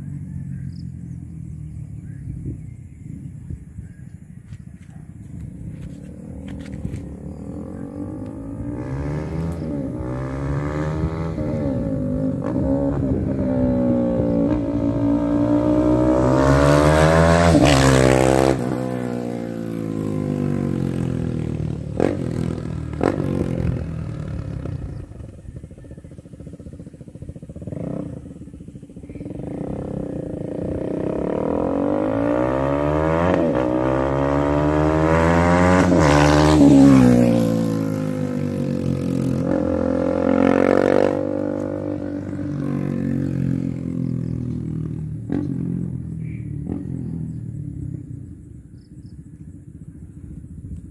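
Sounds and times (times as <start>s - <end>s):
motorcycle passing by: 0.0s - 50.9s.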